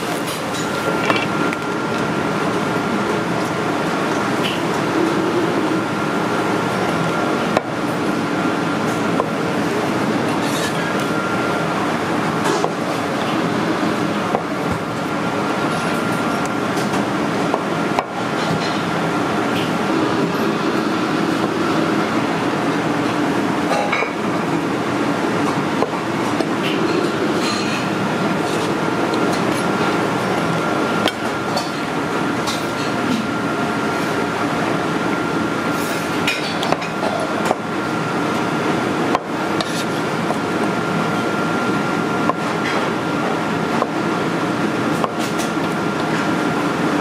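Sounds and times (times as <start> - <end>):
kitchen equipment roar: 0.0 - 47.0.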